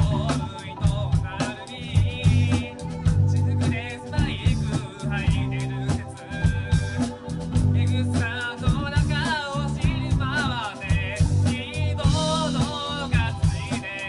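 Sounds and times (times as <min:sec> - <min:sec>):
drum hits: 0:00.0 - 0:14.0
lead vocal singing: 0:00.0 - 0:14.0
live rock band playing: 0:00.0 - 0:14.0.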